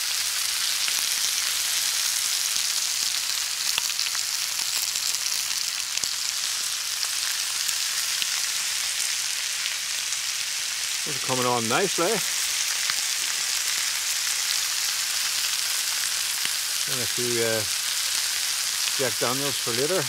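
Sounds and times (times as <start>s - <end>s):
steaks sizzling in a skillet: 0.0s - 20.0s.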